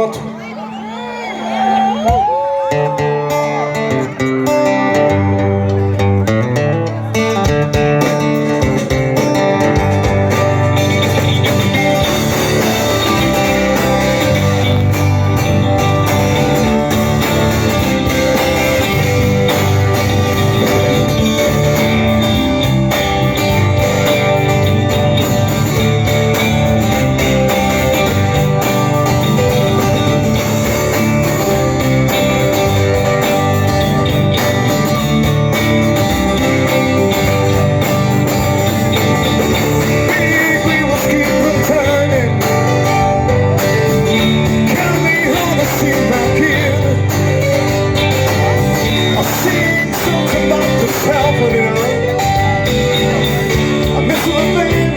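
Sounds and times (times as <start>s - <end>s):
strummed guitars: 0.0s - 54.9s
bass line: 3.2s - 54.9s.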